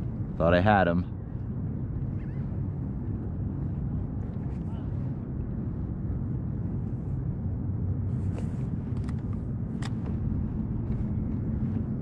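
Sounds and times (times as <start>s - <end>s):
low rumble of open water: 0.0s - 12.0s.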